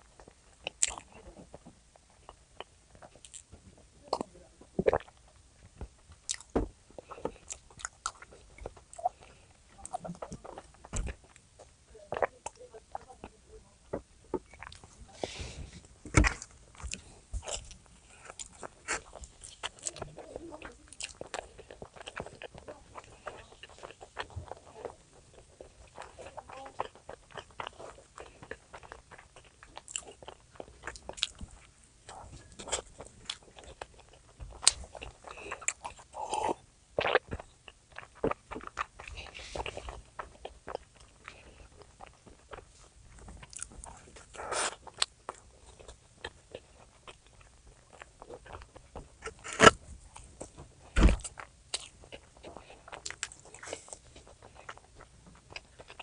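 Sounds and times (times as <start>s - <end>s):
crunching clicks and smacks: 0.0s - 14.9s, 15.8s - 56.0s
person chewing food: 0.0s - 56.0s.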